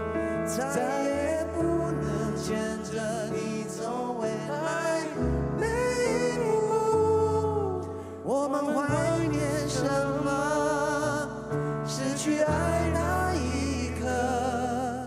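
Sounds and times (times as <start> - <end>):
grand piano accompaniment: 0.0 - 15.0
male voices singing: 0.5 - 15.0.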